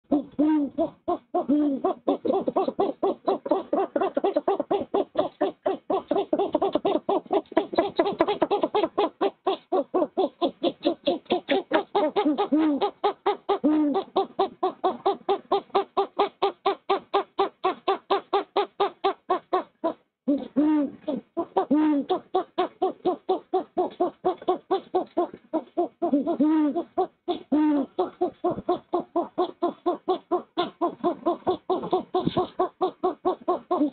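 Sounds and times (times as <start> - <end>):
deep owl hoots: 0.1 - 33.9.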